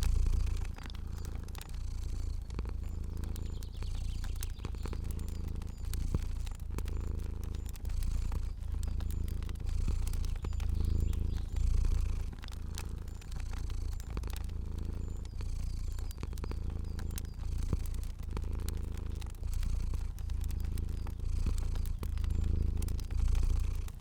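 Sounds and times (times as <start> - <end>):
cat purring: 0.0 - 24.0
wood fire popping and crackling: 0.0 - 24.0.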